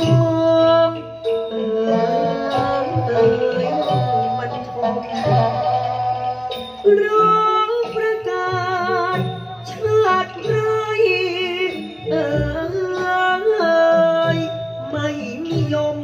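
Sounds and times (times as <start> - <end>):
person singing with vibrato: 0.0 - 16.0
traditional ensemble: 0.0 - 16.0.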